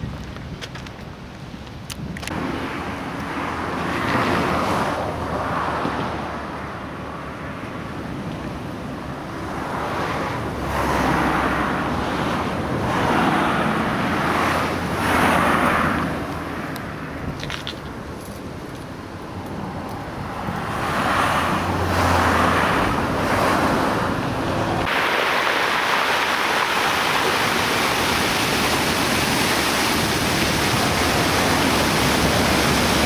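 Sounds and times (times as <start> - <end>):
cars passing on road: 0.0 - 33.0.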